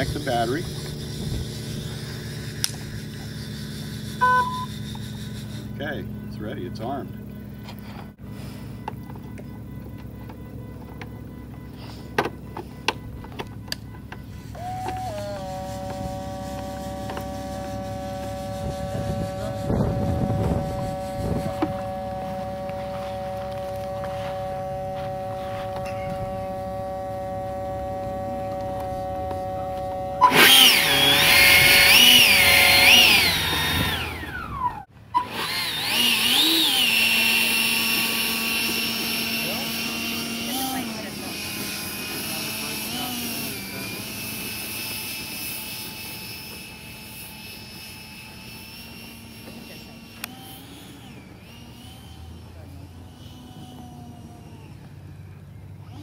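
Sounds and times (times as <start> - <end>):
two-note electronic motor whine: 0.0 - 56.0.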